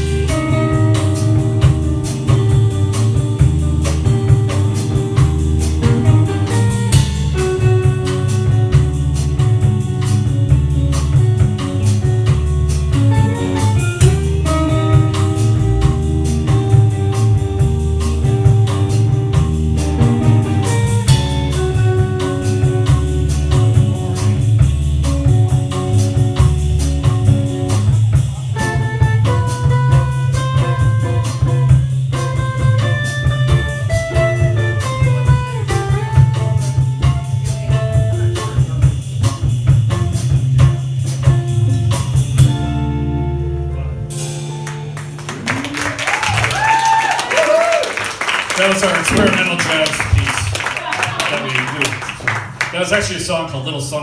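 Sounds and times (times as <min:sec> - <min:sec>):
guitar melody: 0:00.0 - 0:46.0, 0:48.8 - 0:51.2
bass notes: 0:00.0 - 0:54.0
drum kit: 0:00.0 - 0:54.0.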